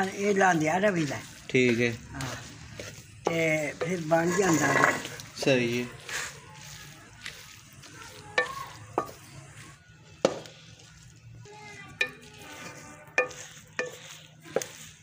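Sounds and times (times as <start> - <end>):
soft sizzle of cooking: 0.0 - 15.0
wooden spatula scraping metal pot: 0.0 - 15.0.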